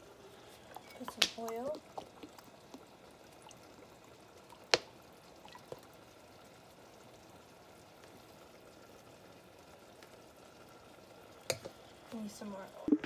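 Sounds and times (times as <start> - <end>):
oil trickling into pan: 0.0 - 12.4.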